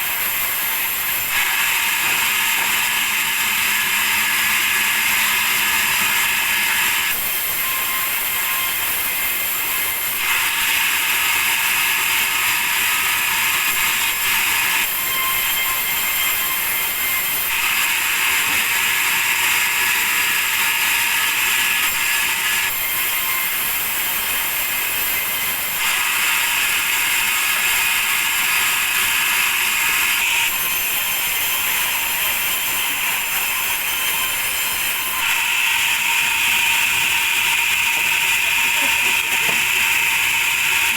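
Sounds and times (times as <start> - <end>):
sawmill saw cutting timber: 0.0 - 40.9.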